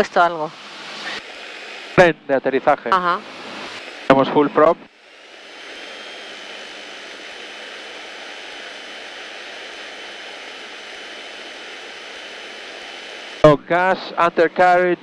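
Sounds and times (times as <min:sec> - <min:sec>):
airflow hiss: 0:00.0 - 0:15.0
faint steady whine: 0:00.0 - 0:15.0
piston engine and propeller drone: 0:00.0 - 0:15.0.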